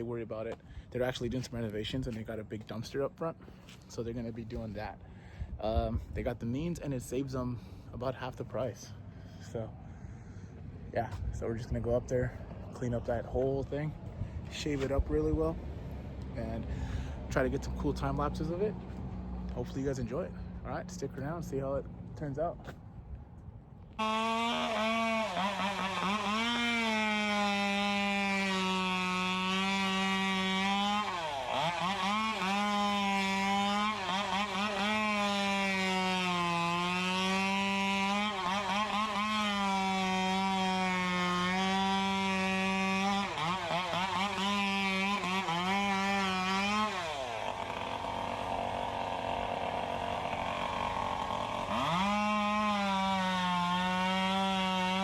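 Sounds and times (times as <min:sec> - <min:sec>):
chainsaw cutting at high revs: 0:00.0 - 0:22.9, 0:23.8 - 0:55.0.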